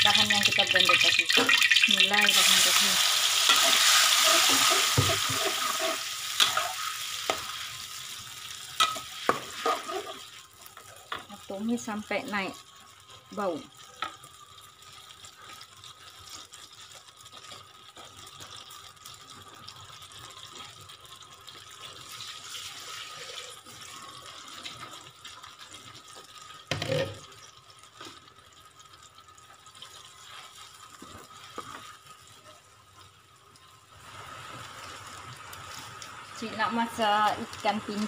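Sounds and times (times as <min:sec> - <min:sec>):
paste sizzling in hot oil: 0:00.0 - 0:38.0.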